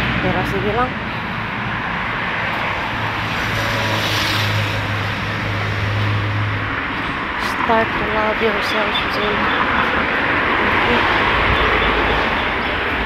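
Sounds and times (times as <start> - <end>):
passing engine hum: 0.0 - 13.0.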